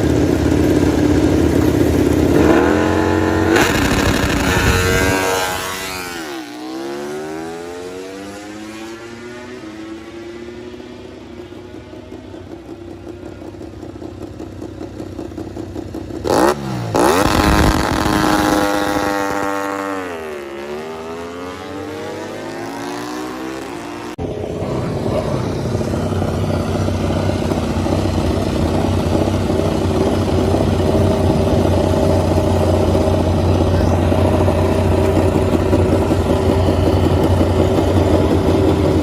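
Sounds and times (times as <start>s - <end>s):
racing motorcycle engines revving: 0.0s - 39.0s.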